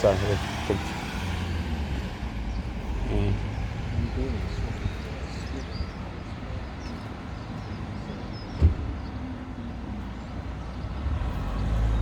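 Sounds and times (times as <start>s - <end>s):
street noise rumble: 0.0s - 12.0s.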